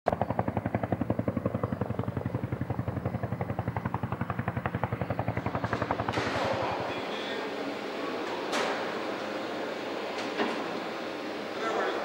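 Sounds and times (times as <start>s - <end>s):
helicopter rotor chop: 0.1s - 12.0s
steady low hum: 0.1s - 12.0s.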